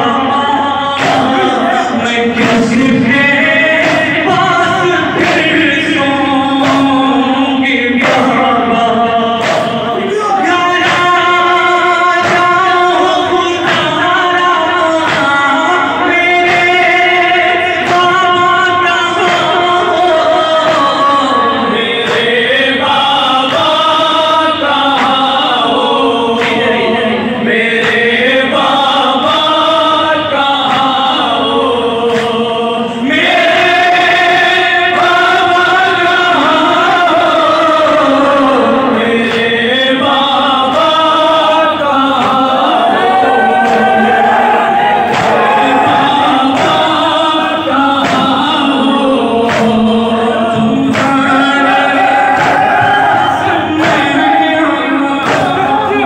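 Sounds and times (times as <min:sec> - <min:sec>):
group of men singing along: 0:00.0 - 0:56.0
man singing into a microphone: 0:00.0 - 0:56.0.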